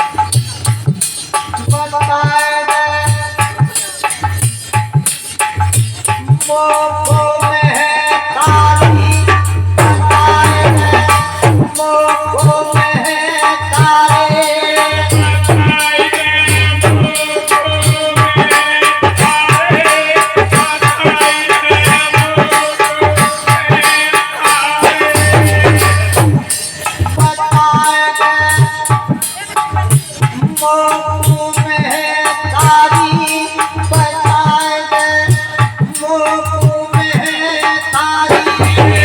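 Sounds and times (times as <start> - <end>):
rattling metal plate percussion: 0.0 - 39.0
low drum beat: 3.0 - 39.0.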